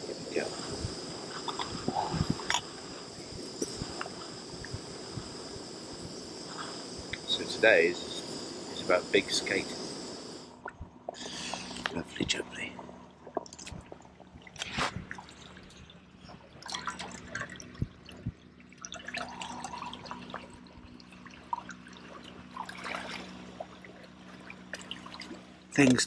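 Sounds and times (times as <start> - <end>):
coffee trickling and dripping: 0.0 - 26.0.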